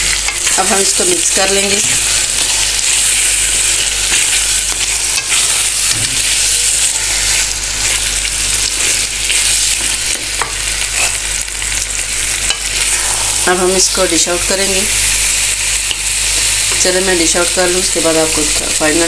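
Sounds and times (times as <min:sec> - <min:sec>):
curry sizzling in a pan: 0:00.0 - 0:19.0.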